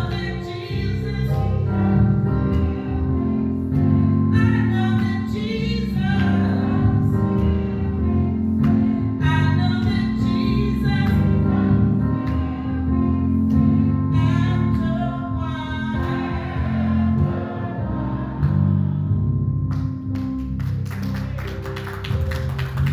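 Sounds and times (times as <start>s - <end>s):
gospel singing: 0.0s - 19.4s
band backing: 0.0s - 22.9s.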